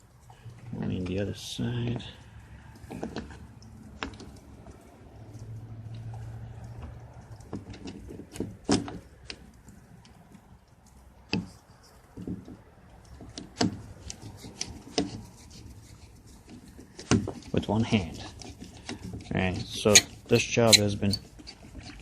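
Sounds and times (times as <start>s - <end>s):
sharp clicks and knocks: 2.7s - 22.0s.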